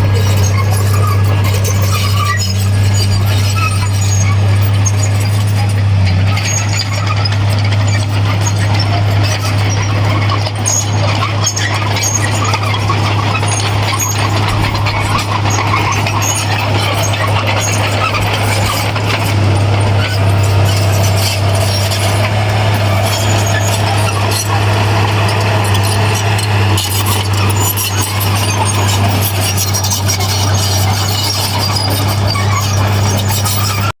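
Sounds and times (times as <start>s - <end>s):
heavy diesel machinery droning: 0.0s - 34.0s
metallic squealing and clanking: 0.0s - 34.0s.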